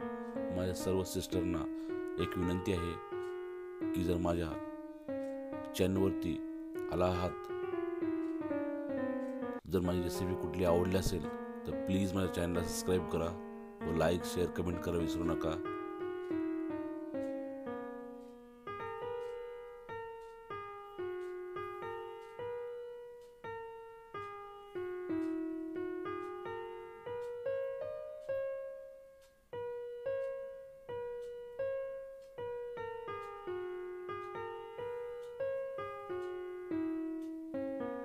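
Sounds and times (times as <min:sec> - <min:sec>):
slow piano melody: 0:00.0 - 0:38.0.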